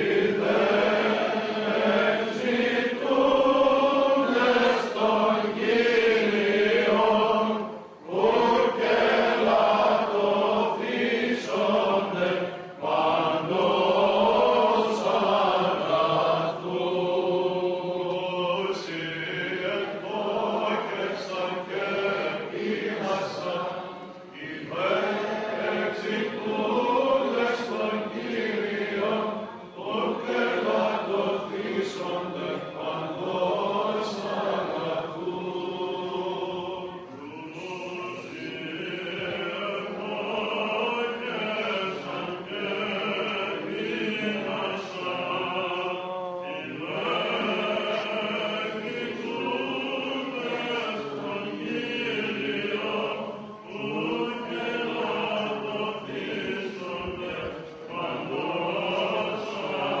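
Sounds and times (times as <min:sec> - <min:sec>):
men chanting: 0:00.0 - 1:00.0.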